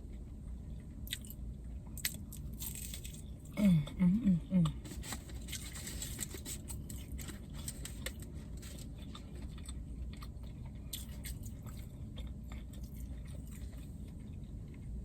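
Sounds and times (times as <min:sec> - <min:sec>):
chewing crunchy fried food: 0:00.0 - 0:03.6, 0:04.6 - 0:15.0.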